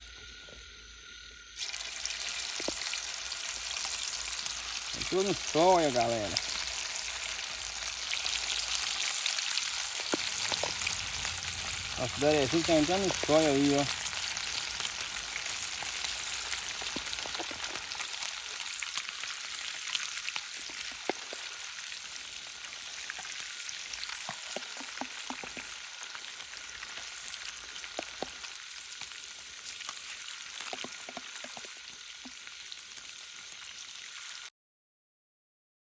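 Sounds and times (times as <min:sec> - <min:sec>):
fish frying in hot oil: 0:00.0 - 0:34.5
oil popping and crackling: 0:01.6 - 0:34.5.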